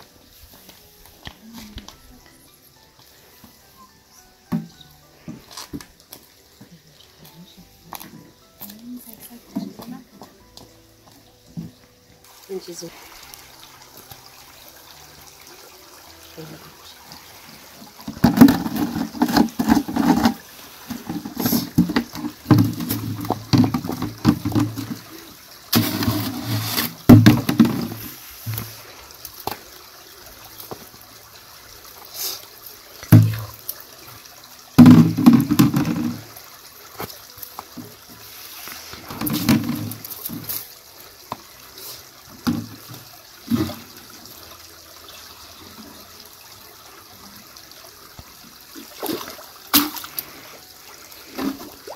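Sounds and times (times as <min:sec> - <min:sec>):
water gurgling into jerrycans: 0:04.5 - 0:10.4, 0:11.0 - 0:51.9.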